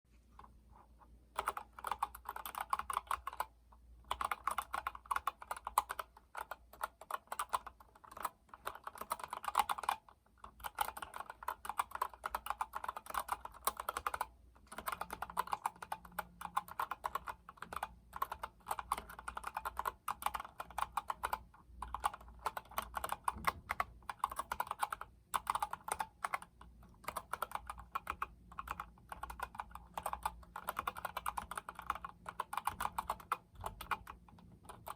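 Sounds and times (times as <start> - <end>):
typing on mechanical keyboard: 1.3 - 34.9.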